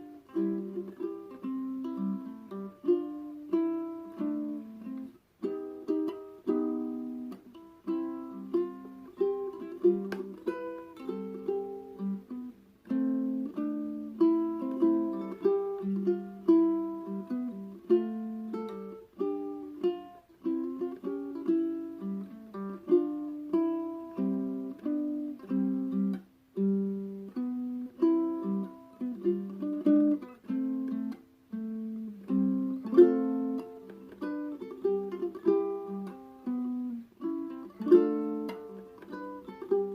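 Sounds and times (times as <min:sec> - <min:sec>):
fingerstyle ukulele: 0:00.0 - 0:39.9.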